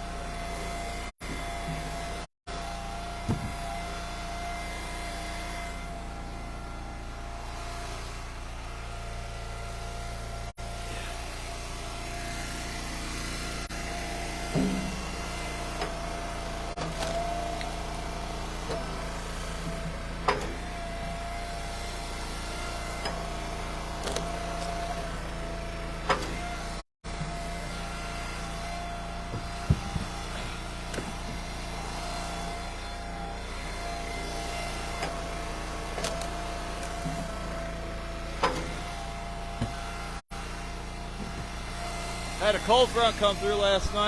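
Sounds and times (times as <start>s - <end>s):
log splitter engine running: 0.0s - 44.0s.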